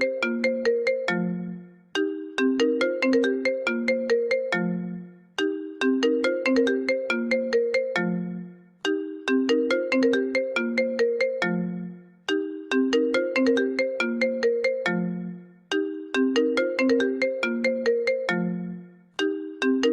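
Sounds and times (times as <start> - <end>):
phone ringtone melody: 0.0 - 19.9.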